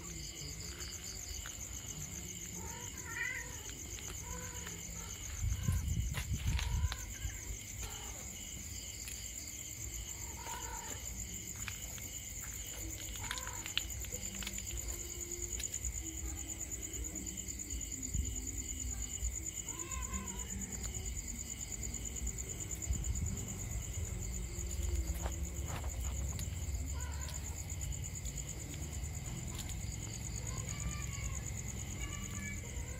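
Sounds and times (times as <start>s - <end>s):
crickets trilling: 0.0s - 32.9s
low pulsing insect: 0.0s - 32.9s.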